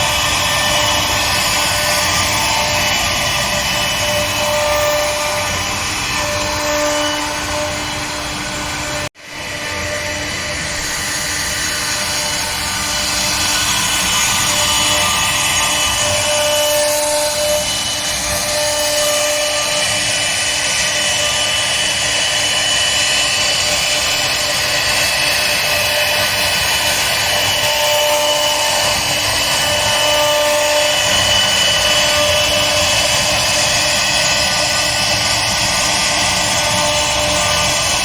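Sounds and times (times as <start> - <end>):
router cutting wood: 0.0 - 38.0.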